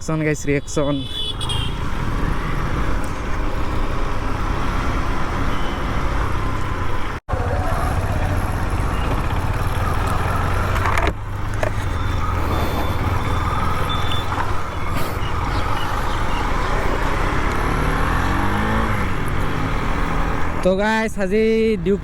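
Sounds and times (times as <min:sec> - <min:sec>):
road noise: 0:00.0 - 0:22.0
vehicle engine low rumble: 0:01.4 - 0:20.7.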